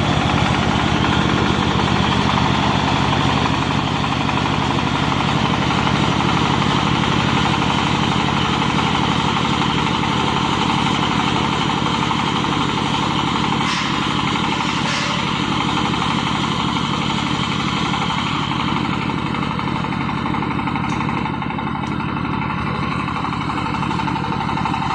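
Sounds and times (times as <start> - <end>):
baling machine drone: 0.0 - 24.9.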